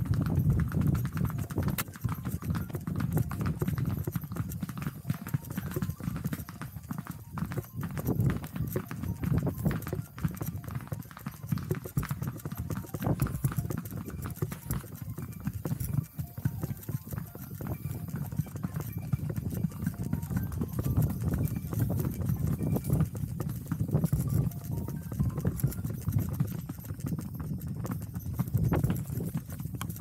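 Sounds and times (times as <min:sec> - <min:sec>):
horse hooves clopping on dirt: 0:00.0 - 0:30.0.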